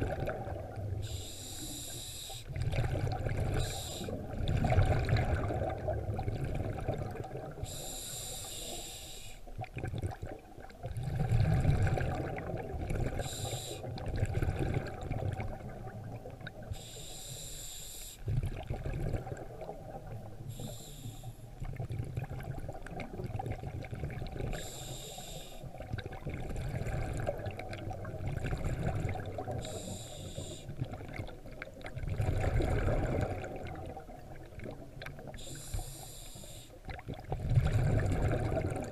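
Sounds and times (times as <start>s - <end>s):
exhaled bubbles hissing: 0.0s - 38.9s
muffled low rumble of water: 0.0s - 38.9s.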